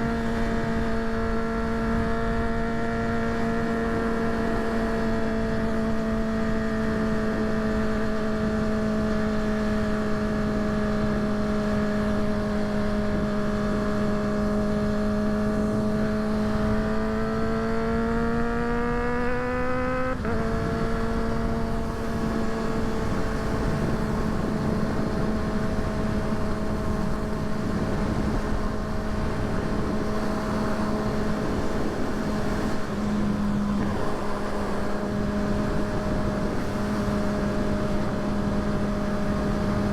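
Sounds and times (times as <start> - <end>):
motorcycle engine cruising: 0.0 - 39.9
road noise: 0.0 - 39.9
wind noise: 0.0 - 39.9.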